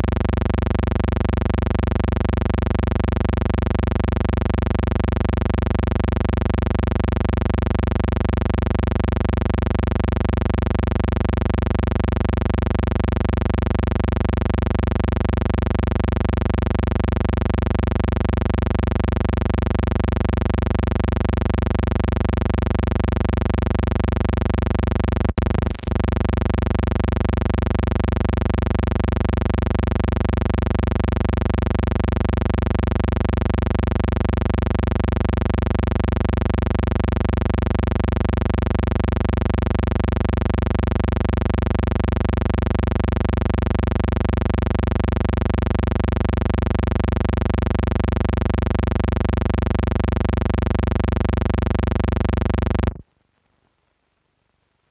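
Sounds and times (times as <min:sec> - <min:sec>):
electrical hum and buzz: 0:00.0 - 0:53.1.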